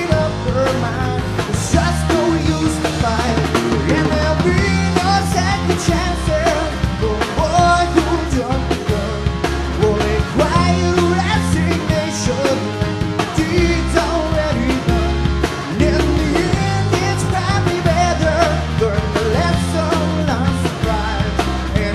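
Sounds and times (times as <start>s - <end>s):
drums: 0.0s - 21.9s
person singing: 0.0s - 21.9s
rock music: 0.0s - 21.9s.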